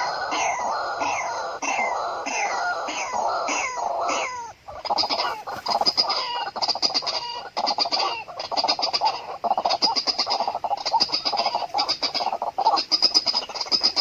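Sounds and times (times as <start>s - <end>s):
bird harsh croaking chatter: 0.0s - 14.0s.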